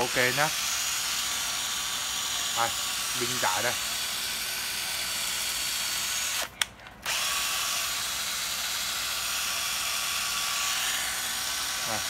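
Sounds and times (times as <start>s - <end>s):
cordless drill motor whine: 0.0s - 12.0s
drill click: 0.5s - 12.0s.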